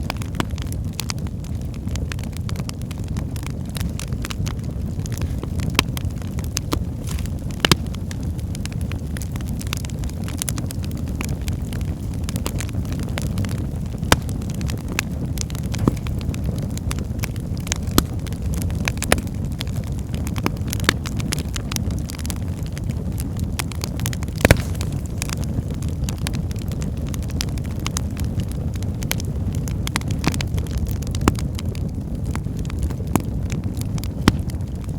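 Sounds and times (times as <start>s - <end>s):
fire crackling and popping: 0.0s - 34.9s
fire roaring: 0.0s - 34.9s.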